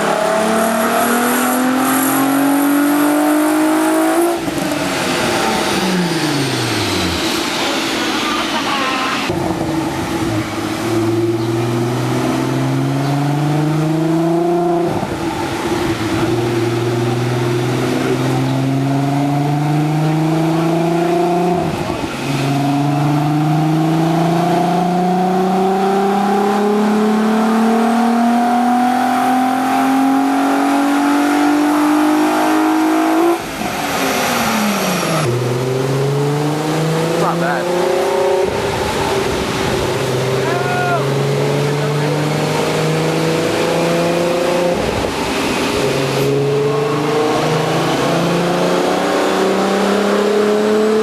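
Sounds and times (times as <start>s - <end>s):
car engine revving at full throttle: 0.0s - 51.0s.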